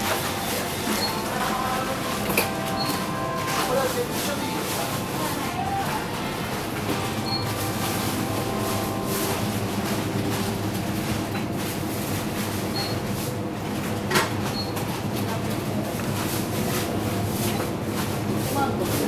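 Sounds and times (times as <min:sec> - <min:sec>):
supermarket background din: 0:00.0 - 0:19.0.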